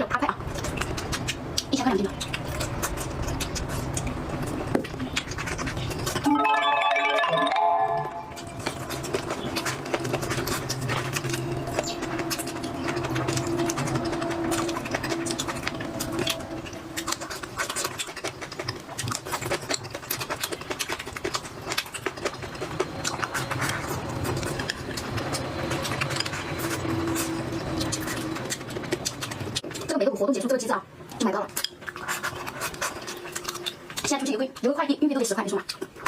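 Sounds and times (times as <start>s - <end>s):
chewing with mouth clicks: 0.0s - 6.2s, 8.3s - 36.0s.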